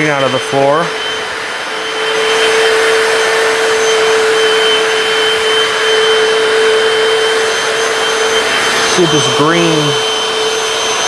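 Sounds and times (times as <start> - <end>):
floor cleaner motor whining: 0.0 - 11.0.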